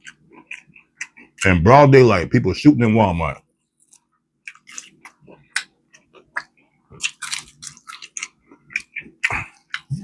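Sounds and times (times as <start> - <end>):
chewing crispy fried chicken: 0.0 - 1.8, 3.8 - 10.0.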